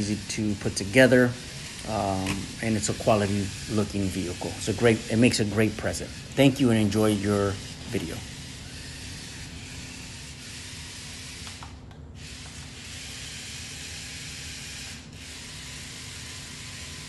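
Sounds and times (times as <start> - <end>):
toy car motor whirring: 0.0 - 17.0.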